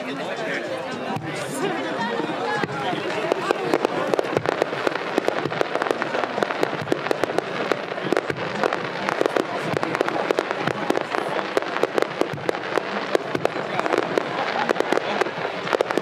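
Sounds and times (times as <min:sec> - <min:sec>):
fireworks bangs and crackles: 0:00.9 - 0:01.8, 0:02.4 - 0:16.0.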